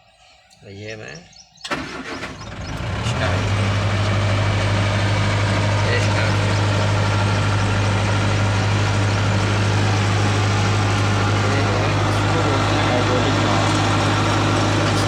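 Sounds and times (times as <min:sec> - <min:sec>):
diesel engine idling: 0:01.7 - 0:15.0.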